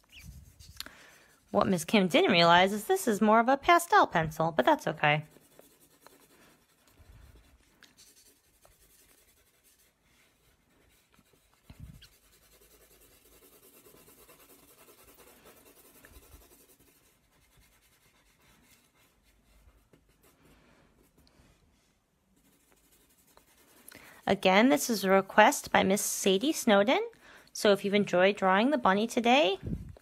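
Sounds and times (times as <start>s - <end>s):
pencil scratching on paper: 0.0s - 3.2s, 4.4s - 21.2s, 22.4s - 26.6s.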